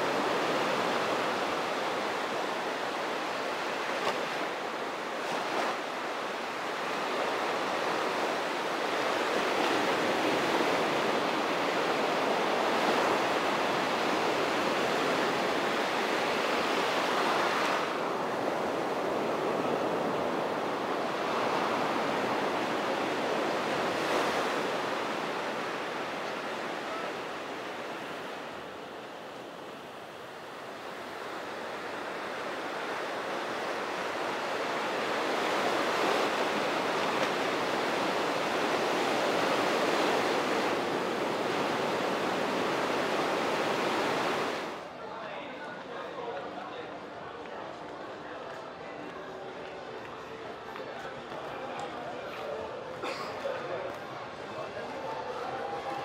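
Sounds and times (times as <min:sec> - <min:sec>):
small waves breaking on beach: 0:00.0 - 0:45.0.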